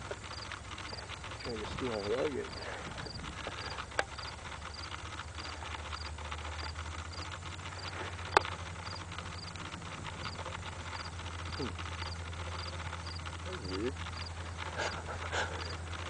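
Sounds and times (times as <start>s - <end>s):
low hum: 0.0s - 16.0s
insect chirping: 0.3s - 1.5s, 2.4s - 14.5s, 15.6s - 15.8s.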